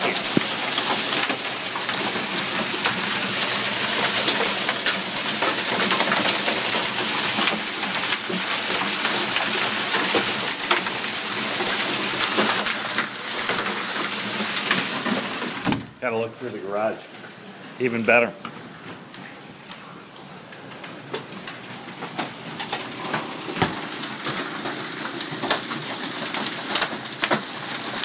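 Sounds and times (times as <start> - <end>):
hailstones ticking on hard surfaces: 0.0 - 15.7, 20.5 - 28.0
heavy rain: 0.0 - 15.7, 17.0 - 28.0.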